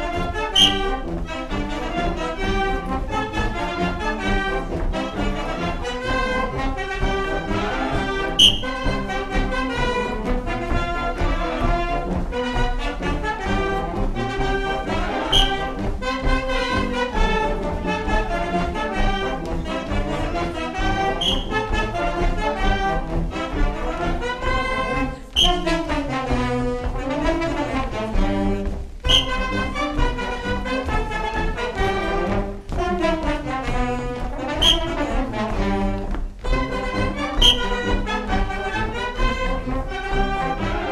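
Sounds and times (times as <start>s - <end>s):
live brass band music: 0.0s - 40.9s.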